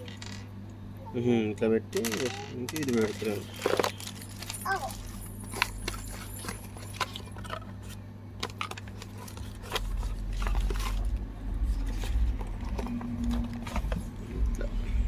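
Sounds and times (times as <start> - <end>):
handling rumble: 2.0 - 15.0.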